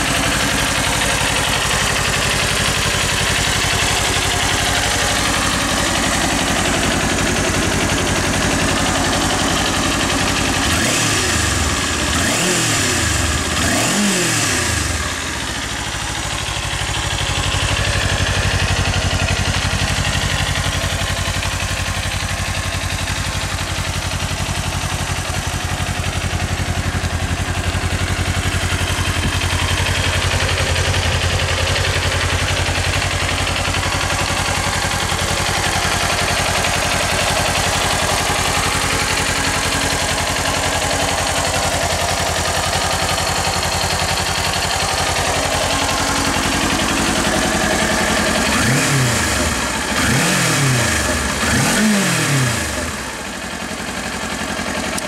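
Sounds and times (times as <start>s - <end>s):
motorcycle engine idling: 0.0s - 55.0s
motorcycle engine revving: 0.0s - 55.0s.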